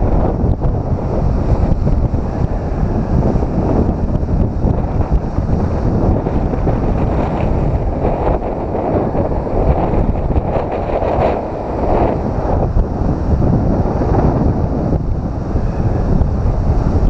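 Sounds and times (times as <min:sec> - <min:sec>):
ocean surf breaking on rocks: 0:00.0 - 0:17.0
wind buffeting microphone: 0:00.0 - 0:17.0.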